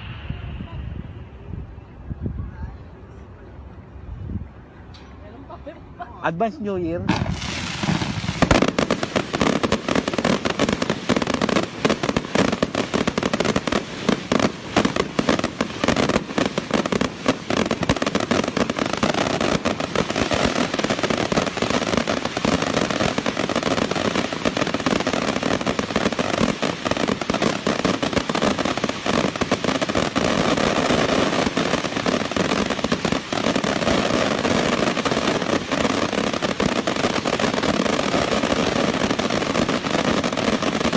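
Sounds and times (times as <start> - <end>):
fireworks bangs and crackles: 0.0 - 2.2, 6.4 - 40.9.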